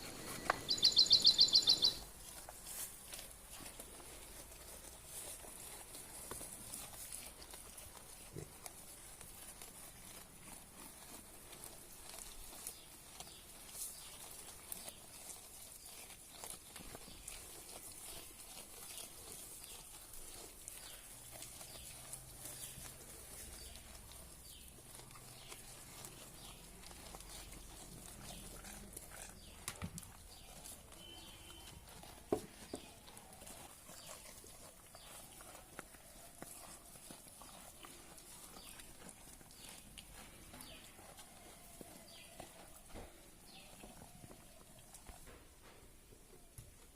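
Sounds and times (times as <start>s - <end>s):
leaves rustling: 0.0s - 45.2s
goats chewing: 0.0s - 46.9s.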